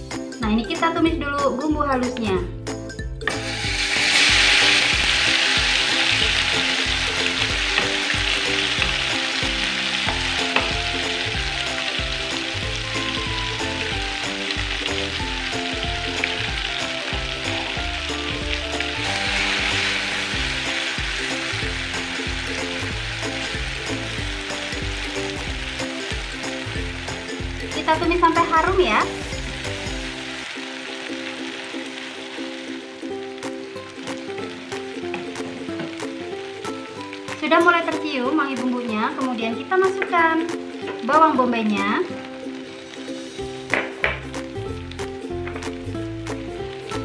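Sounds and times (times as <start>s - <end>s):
paste sizzling in hot oil: 3.2s - 47.0s.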